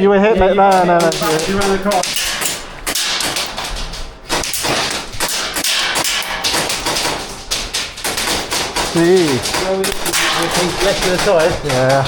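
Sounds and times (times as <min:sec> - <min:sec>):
airsoft guns firing: 0:00.5 - 0:12.0.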